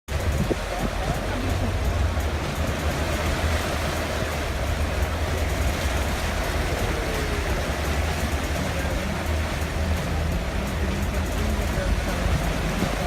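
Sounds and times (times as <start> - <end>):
deep even rumble: 0.1 - 13.0
floodwater rushing: 0.1 - 13.0
heavy rain: 0.1 - 13.0.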